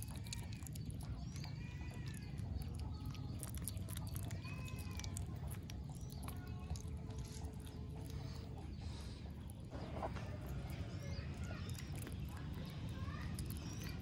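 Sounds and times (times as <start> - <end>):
otter chewing wet fish: 0.0 - 14.0.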